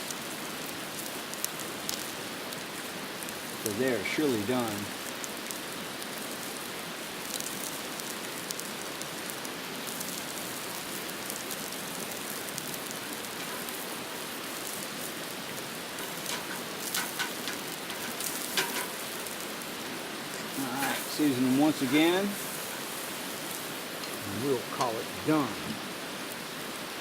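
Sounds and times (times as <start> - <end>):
meat sizzling on a grill: 0.0 - 27.0.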